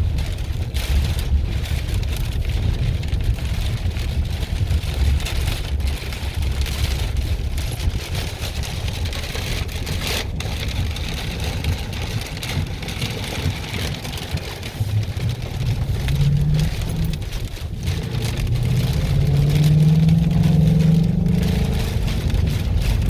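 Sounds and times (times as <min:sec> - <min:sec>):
rain on vehicle: 0:00.0 - 0:23.0
road noise: 0:00.0 - 0:23.0
storm wind: 0:00.0 - 0:23.0
truck engine: 0:00.0 - 0:23.0.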